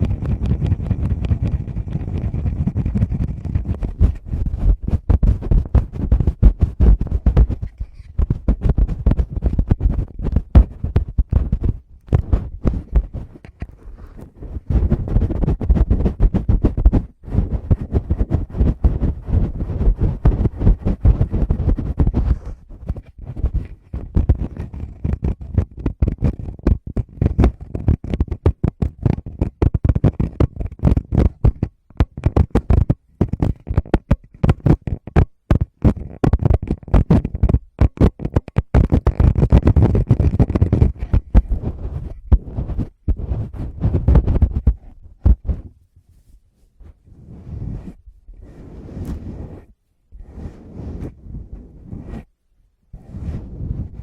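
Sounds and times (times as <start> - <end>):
fingertips tapping on microphone: 0.0 - 49.7
rubbing on microphone: 0.0 - 54.0.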